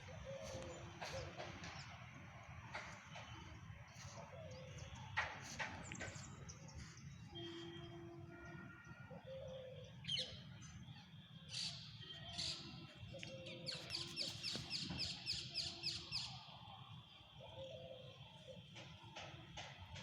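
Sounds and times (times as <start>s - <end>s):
bird chirping: 0.0s - 16.5s.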